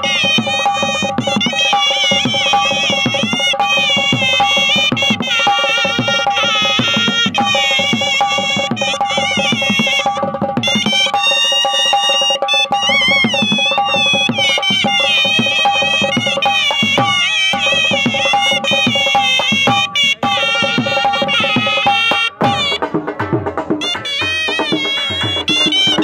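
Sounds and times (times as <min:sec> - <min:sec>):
hand drum beat: 0:00.0 - 0:26.0
high ornamented melody: 0:00.0 - 0:26.0.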